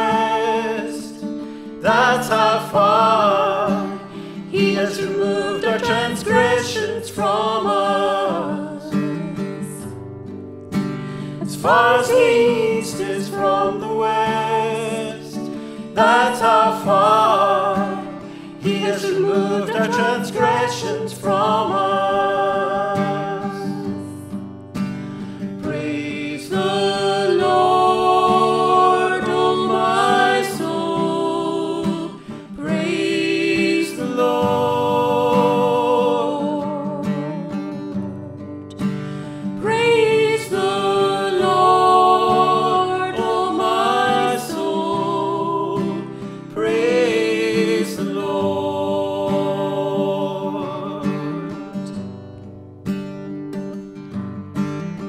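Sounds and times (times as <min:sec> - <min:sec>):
person singing: 0:00.0 - 0:01.2, 0:01.8 - 0:10.0, 0:11.4 - 0:24.4, 0:25.6 - 0:38.0, 0:39.6 - 0:51.7
guitar chords: 0:00.0 - 0:55.0.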